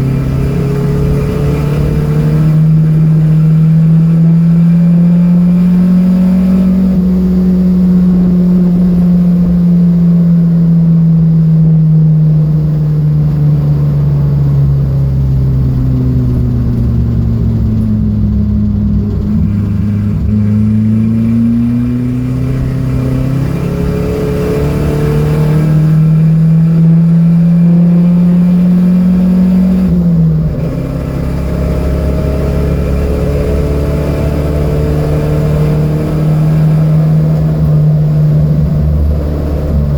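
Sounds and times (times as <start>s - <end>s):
car engine running hard: 0.0s - 39.9s.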